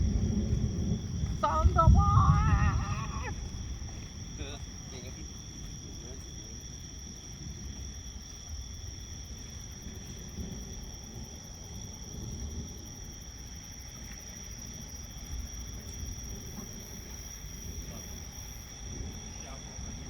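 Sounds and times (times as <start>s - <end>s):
continuous low rumble: 0.0s - 20.0s
crickets trilling: 0.0s - 20.0s.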